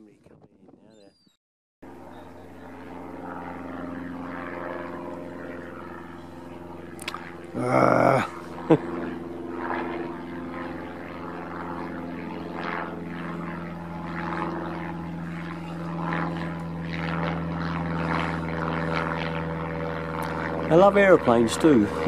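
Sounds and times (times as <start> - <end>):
aeroplane engine drone: 1.0 - 22.0.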